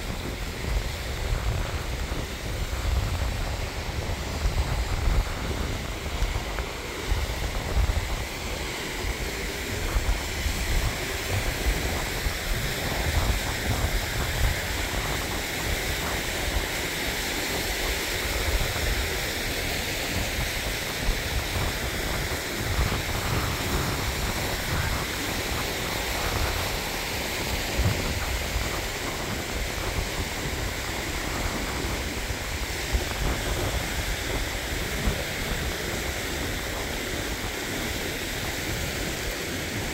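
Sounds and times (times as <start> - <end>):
stream rushing over boulders: 0.0 - 39.9
wind buffeting microphone: 0.0 - 39.9.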